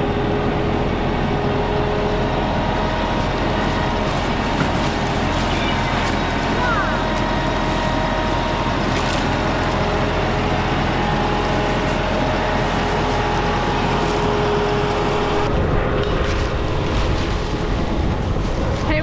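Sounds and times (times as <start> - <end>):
diesel tractor running: 0.0 - 19.0
steady whine: 0.0 - 19.0.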